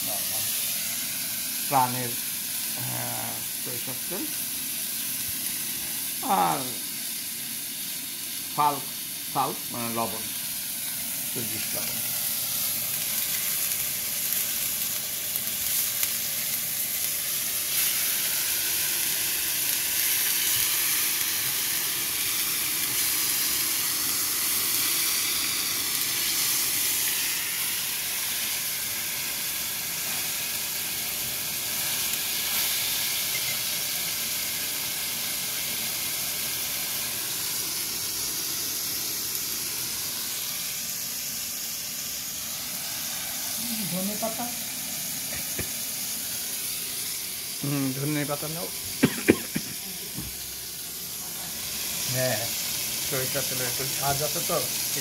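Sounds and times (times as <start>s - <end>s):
tomato slices sizzling in a pan: 0.0s - 55.0s.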